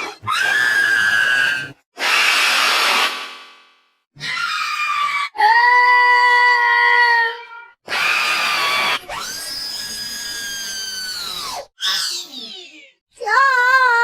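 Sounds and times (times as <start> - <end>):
cartoon screams: 0.2 - 2.8, 4.2 - 12.8.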